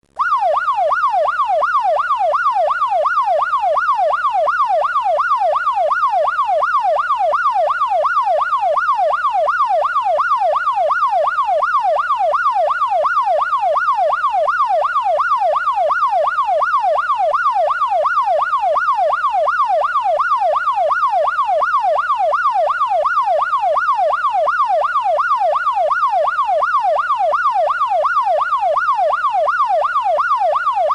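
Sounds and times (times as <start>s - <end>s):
police siren wailing: 0.2s - 30.9s.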